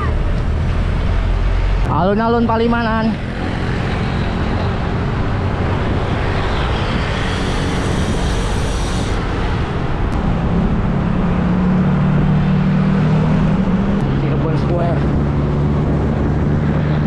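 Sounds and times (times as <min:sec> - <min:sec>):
road traffic noise: 0:00.0 - 0:17.0
vehicle engine low hum: 0:00.0 - 0:17.0
wind and tyre hiss: 0:00.0 - 0:17.0.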